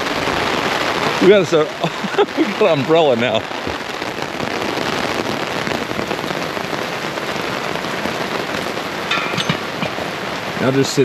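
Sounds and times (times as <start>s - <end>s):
rain pattering on fabric umbrella: 0.0s - 11.0s.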